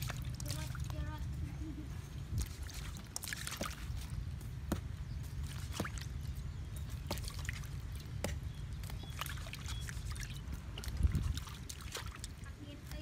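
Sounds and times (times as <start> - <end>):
wet squishes and drips: 0.0 - 1.4, 2.3 - 13.0.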